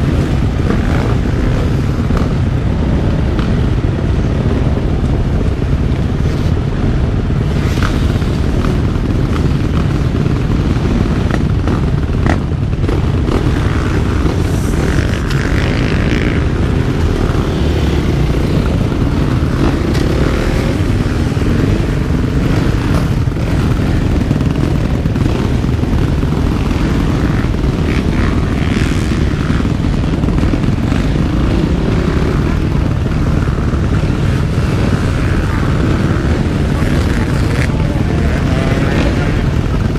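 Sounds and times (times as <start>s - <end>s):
motocross engine revving: 5.8s - 39.9s.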